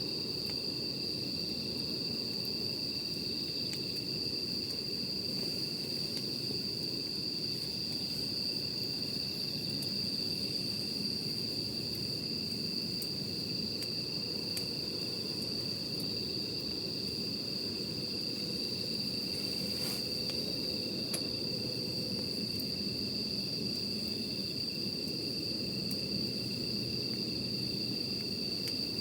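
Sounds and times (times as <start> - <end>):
campfire crackling and popping: 0.0 - 19.3, 20.0 - 29.0
crickets trilling: 0.0 - 29.0.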